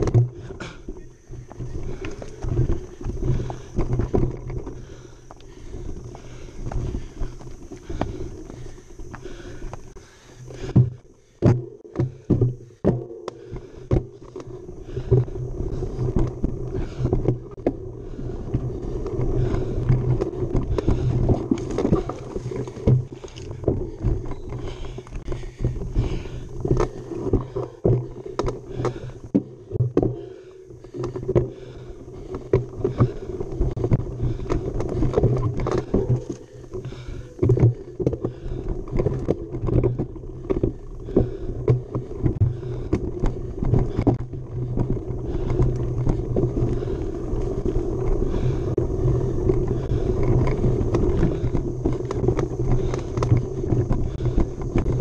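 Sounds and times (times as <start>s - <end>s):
bike knocks and rattles: 0.0s - 55.0s
mountain bike rolling drone: 0.0s - 55.0s.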